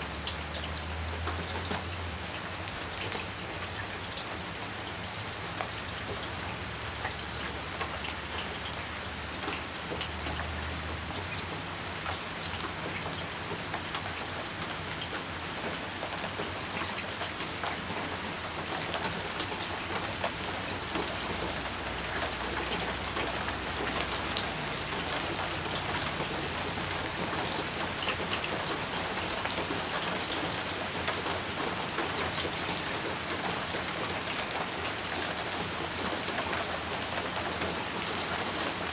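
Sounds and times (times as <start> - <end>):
rain on foliage: 0.0 - 38.9.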